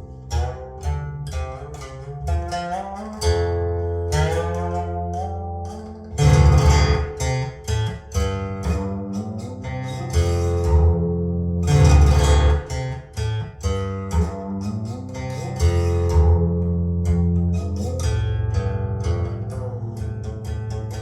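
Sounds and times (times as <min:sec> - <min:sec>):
guitar plucked and strummed: 0:00.0 - 0:21.0.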